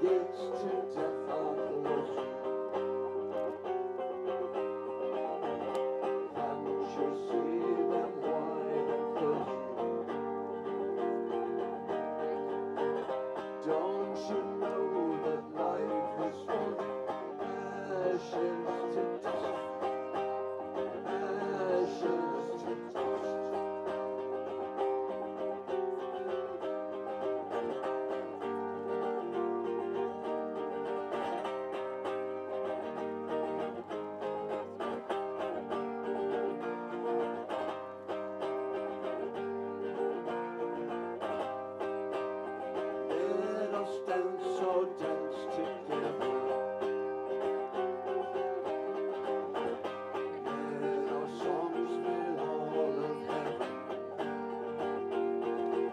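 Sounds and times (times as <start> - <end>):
plucked string instruments playing: 0.0 - 55.9.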